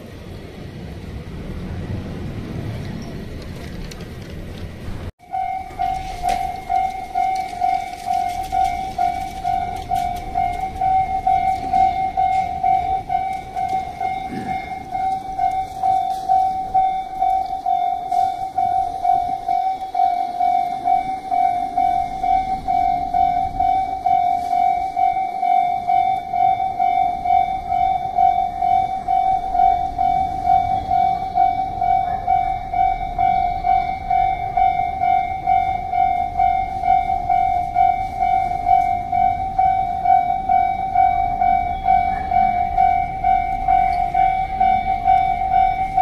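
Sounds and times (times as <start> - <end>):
railroad crossing alarm bell: 5.2 - 46.0.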